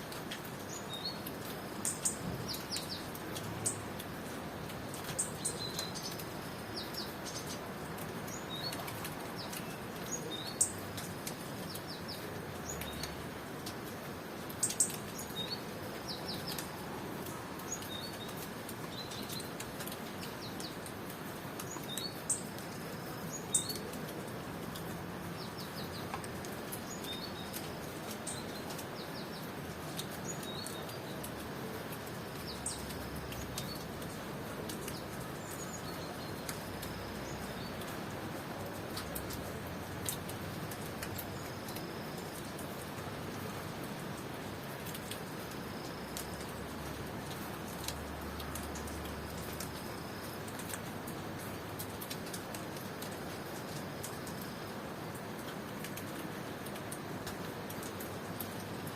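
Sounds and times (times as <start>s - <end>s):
rain hissing: 0.0s - 58.9s.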